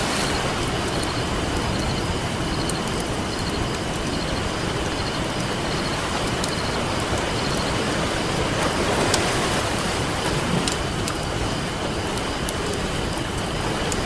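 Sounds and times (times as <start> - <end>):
campfire crackling: 0.0 - 14.0
ocean surf washing in: 0.0 - 14.0.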